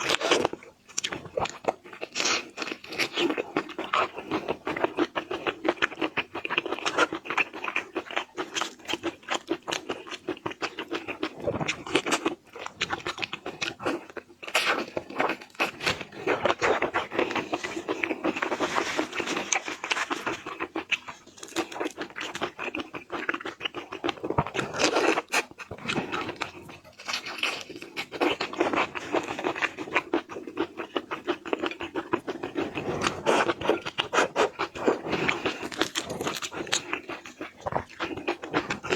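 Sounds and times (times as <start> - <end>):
crunching seafood being chewed: 0.0 - 38.9.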